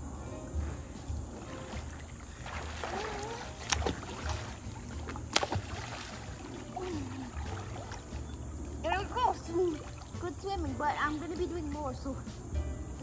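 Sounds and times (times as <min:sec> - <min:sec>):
swimmer splashing: 0:00.5 - 0:11.9
water slaps: 0:01.0 - 0:12.1.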